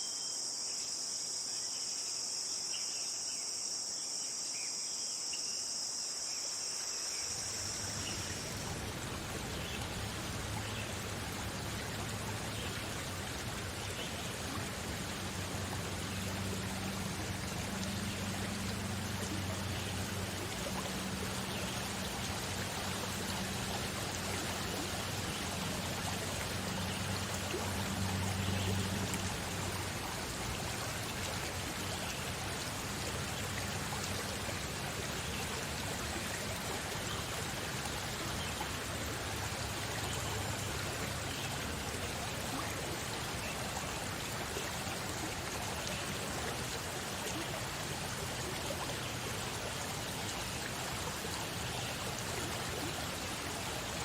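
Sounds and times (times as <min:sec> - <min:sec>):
flowing water rushing: 0:06.6 - 0:54.0.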